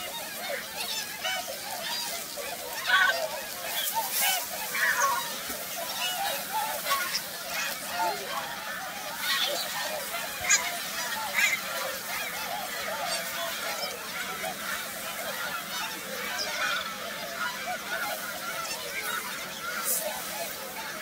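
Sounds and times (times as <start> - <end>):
geese honking: 0.0 - 21.0.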